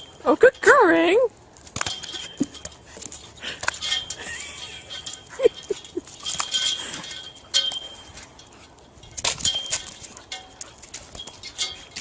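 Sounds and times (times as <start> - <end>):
sharp metallic clinks and knocks: 0.0 - 12.0.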